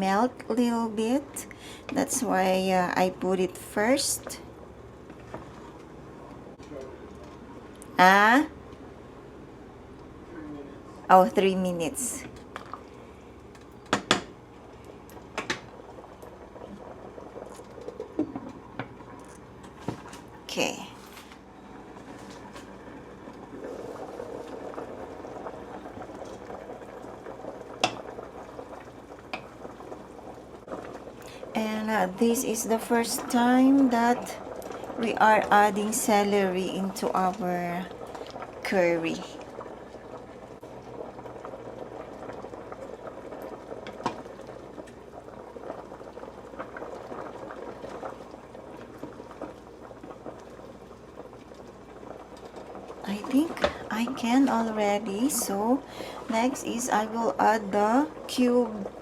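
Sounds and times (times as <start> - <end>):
pot boiling and bubbling: 0.0 - 59.0.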